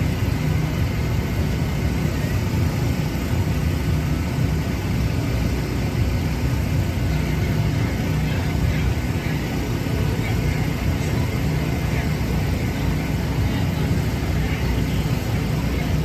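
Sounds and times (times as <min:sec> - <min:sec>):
faint constant hum: 0:00.0 - 0:16.0
low engine rumble: 0:00.0 - 0:16.0.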